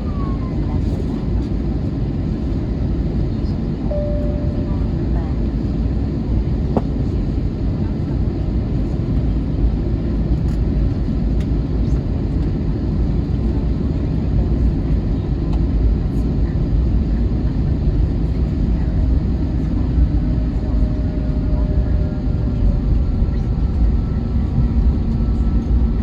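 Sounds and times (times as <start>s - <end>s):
jet cabin engine rumble: 0.0s - 26.0s.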